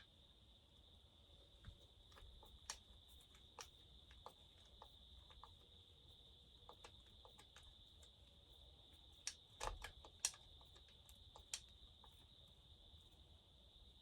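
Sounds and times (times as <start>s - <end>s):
faint high-pitched hiss: 0.0s - 14.0s.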